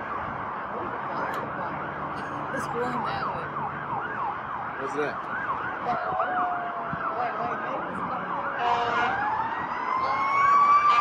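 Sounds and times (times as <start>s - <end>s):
siren yelp: 1.3s - 11.0s
siren wail rising in pitch: 1.4s - 11.0s.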